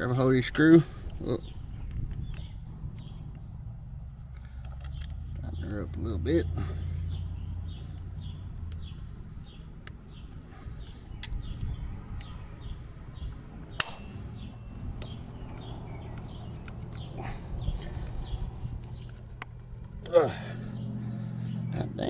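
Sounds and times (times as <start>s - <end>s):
birds chirping: 0.0s - 22.0s
low steady hum: 0.0s - 22.0s.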